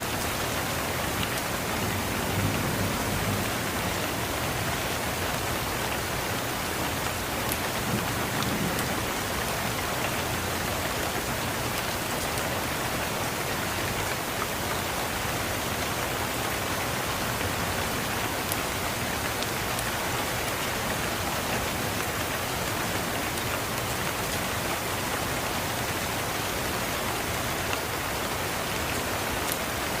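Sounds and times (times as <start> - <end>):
rain spattering on surfaces: 0.0 - 30.0.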